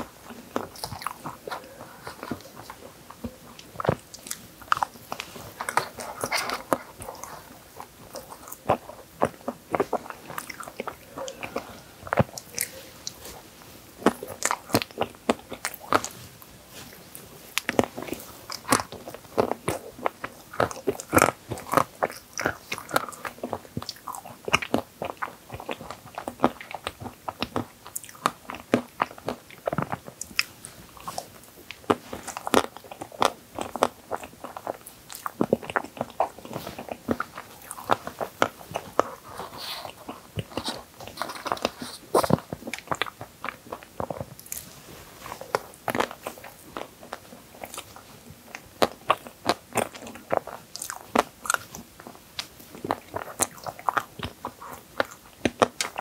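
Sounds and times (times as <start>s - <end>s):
crisp crunchy chewing: 0.0s - 56.0s.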